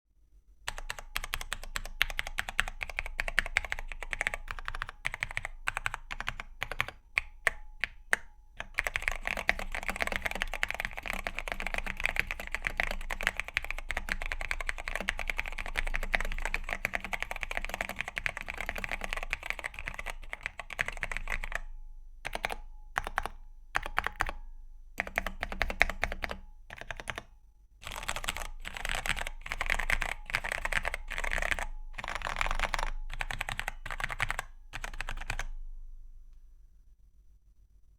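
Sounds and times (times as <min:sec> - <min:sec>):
mechanical keyboard typing: 0:00.7 - 0:21.7, 0:22.3 - 0:24.4, 0:25.0 - 0:35.5.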